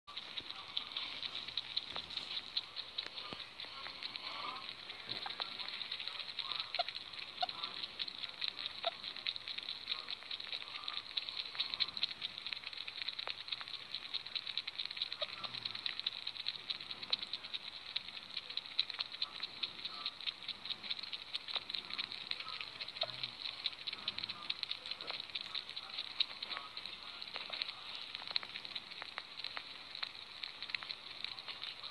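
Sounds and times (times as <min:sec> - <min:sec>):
sugar gliders clicking: 0:00.0 - 0:31.9.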